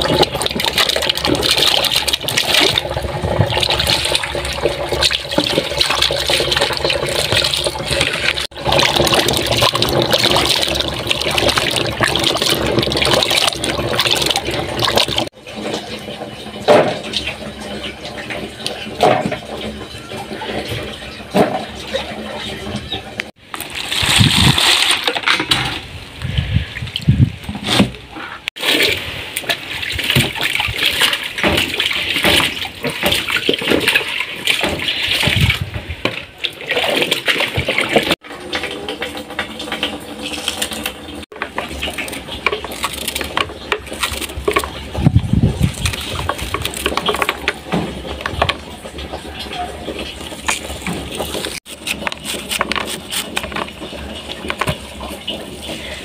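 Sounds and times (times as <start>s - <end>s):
water pouring: 0.0s - 27.5s, 28.5s - 56.0s
water sloshing in plastic basin: 0.0s - 56.0s.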